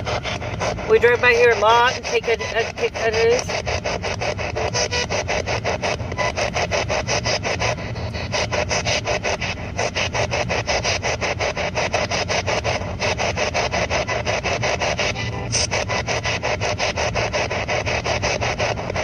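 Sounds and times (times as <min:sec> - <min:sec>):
radio static bursts: 0:00.0 - 0:19.0.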